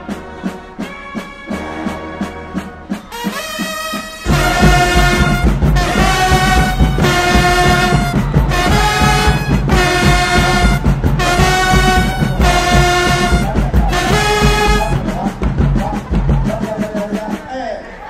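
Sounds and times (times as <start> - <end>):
marching band brass chords: 0.0 - 17.5
heavy drums: 0.0 - 17.6.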